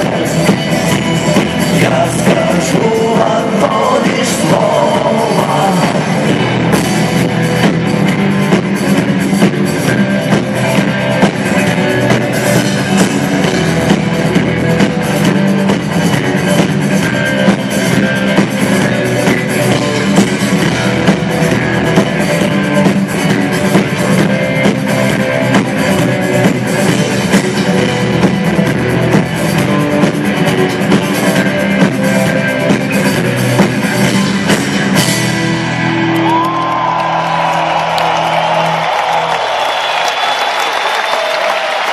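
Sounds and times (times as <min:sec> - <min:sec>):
drum kit beat: 0:00.0 - 0:39.8
rock band playing: 0:00.0 - 0:41.9.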